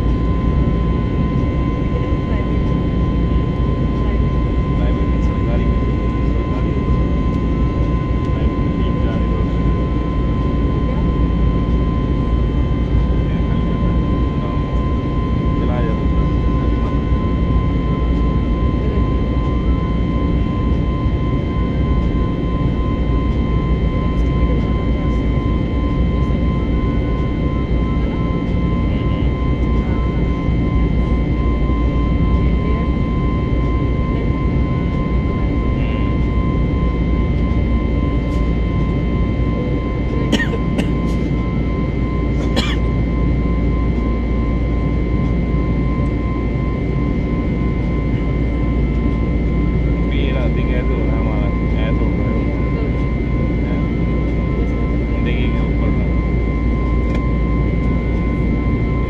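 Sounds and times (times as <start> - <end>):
engine and airflow rumble: 0.0 - 59.0
high whine: 0.0 - 59.0.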